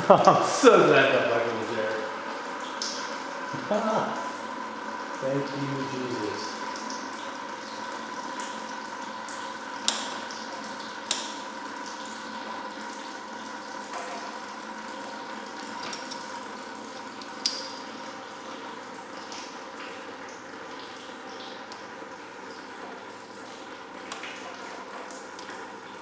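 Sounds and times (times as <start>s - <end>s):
liquid pouring into a bucket: 0.0s - 26.0s.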